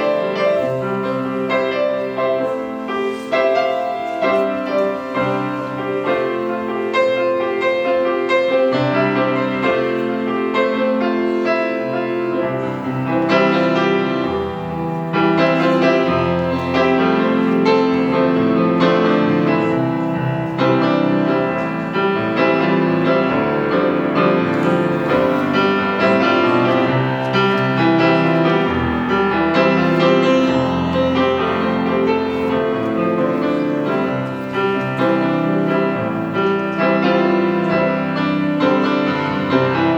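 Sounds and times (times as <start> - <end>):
slow gentle piano piece: 0.0 - 39.9.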